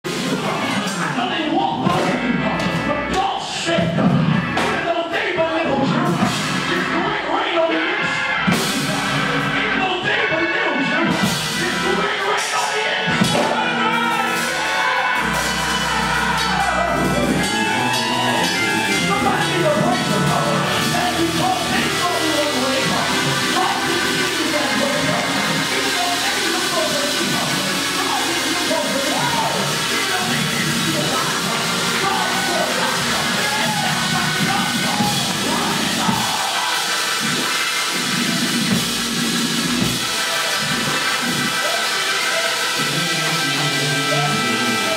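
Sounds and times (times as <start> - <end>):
person singing: 0.0 - 38.8, 40.2 - 44.9
church band music: 0.0 - 44.9
drums: 0.0 - 44.9
keyboard chords: 0.0 - 44.9.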